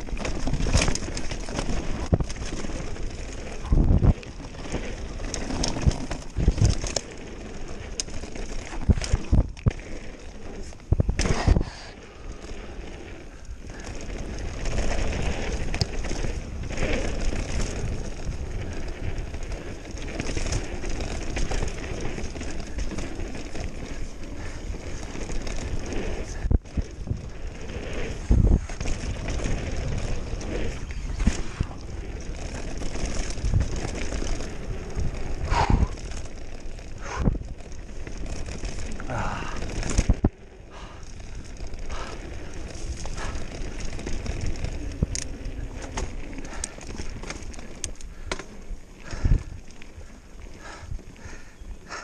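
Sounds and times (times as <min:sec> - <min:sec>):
bike knocking and rattling on bumps: 0:00.0 - 0:52.0
tyre and wind rumble: 0:00.0 - 0:52.0.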